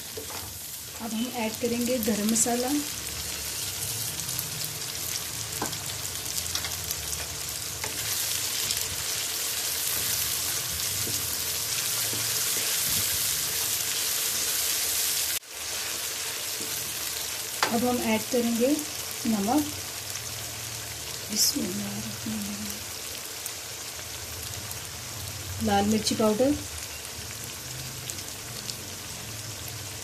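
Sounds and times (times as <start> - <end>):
masala sizzling in oil: 0.0 - 30.0.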